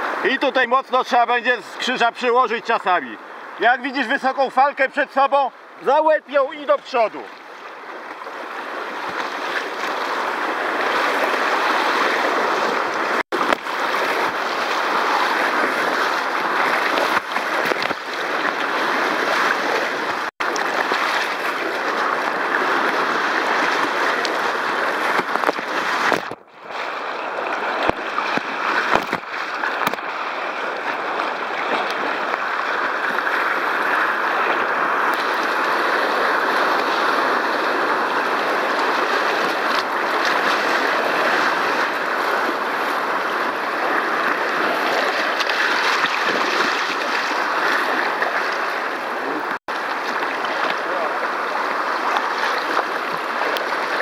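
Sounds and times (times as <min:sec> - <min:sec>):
whitewater rapids rushing: 0:00.0 - 0:54.0.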